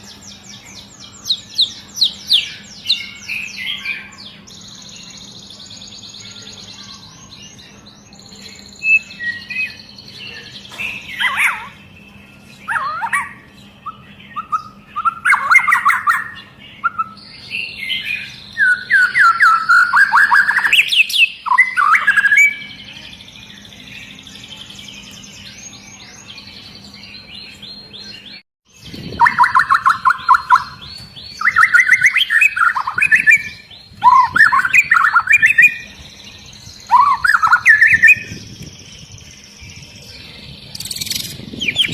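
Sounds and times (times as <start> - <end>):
bird singing whistled trills: 0.0 - 41.9.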